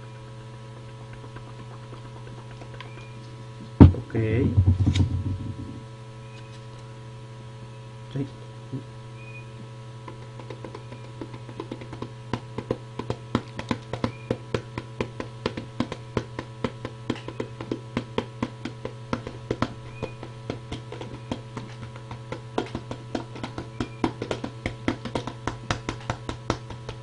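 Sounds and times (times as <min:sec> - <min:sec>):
steady electrical hum: 0:00.0 - 0:27.0.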